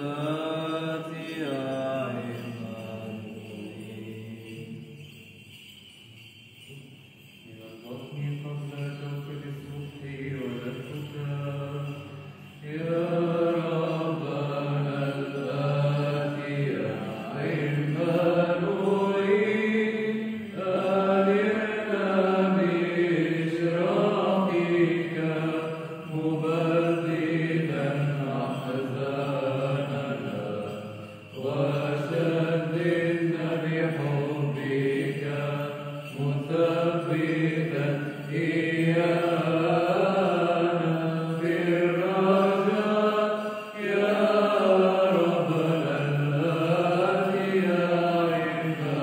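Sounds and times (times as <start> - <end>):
chanted melody: 0.0 - 49.0.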